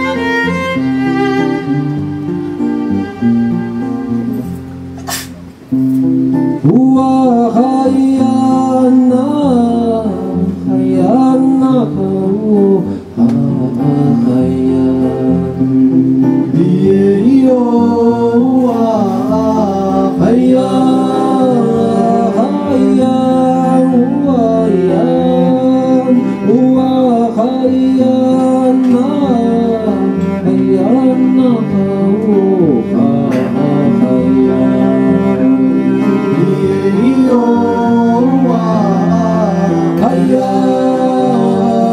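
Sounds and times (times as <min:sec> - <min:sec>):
acoustic strings accompaniment: 0:00.0 - 0:41.9
person singing: 0:06.6 - 0:41.9.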